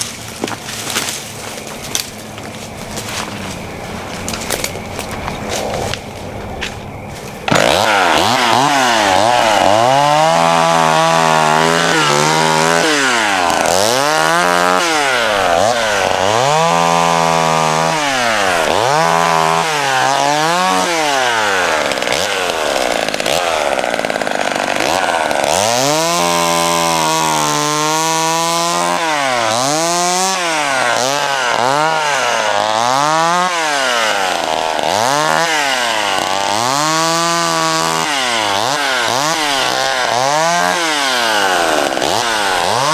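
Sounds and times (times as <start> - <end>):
chainsaw revving: 7.1 - 42.9.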